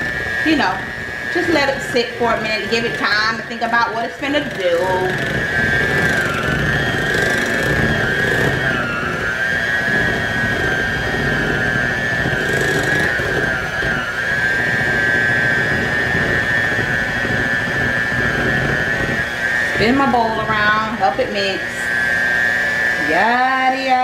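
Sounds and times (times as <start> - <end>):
electric hand mixer whining: 0.0 - 24.0.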